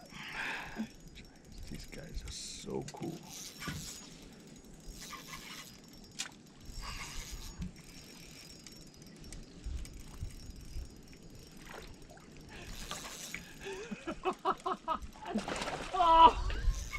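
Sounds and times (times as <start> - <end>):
fishing reel whirring and clicking: 0.0 - 15.2, 16.4 - 16.9.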